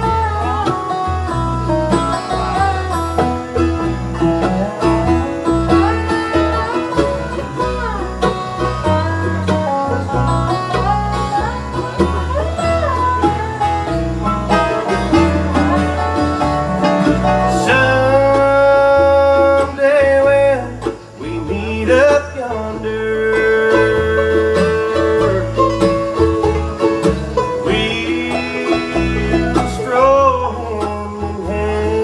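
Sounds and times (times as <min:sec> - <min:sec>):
sliding lead line: 0:00.0 - 0:31.7
bluegrass band playing: 0:00.0 - 0:32.0.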